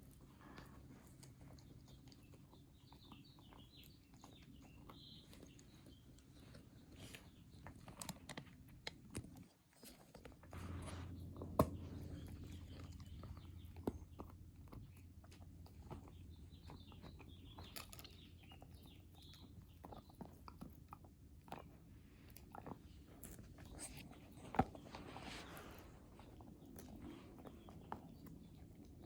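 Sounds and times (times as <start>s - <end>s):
puppy chewing a treat: 0.0s - 29.0s.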